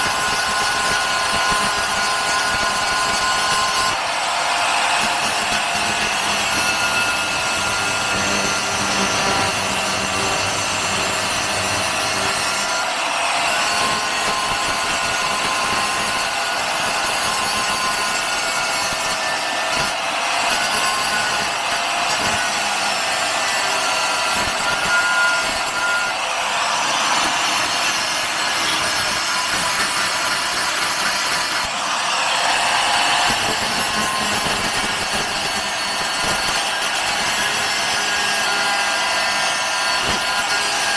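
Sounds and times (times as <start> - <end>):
angle grinder grinding steel: 0.0 - 4.2, 4.8 - 40.9.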